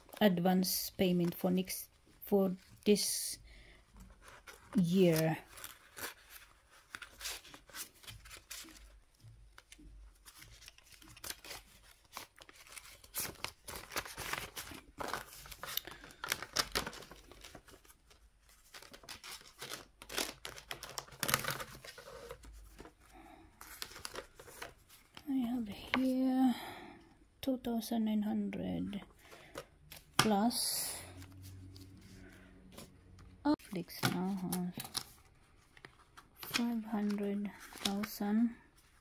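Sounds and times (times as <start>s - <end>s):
paper envelopes rustling: 3.9s - 26.2s, 28.9s - 30.5s, 31.1s - 39.0s.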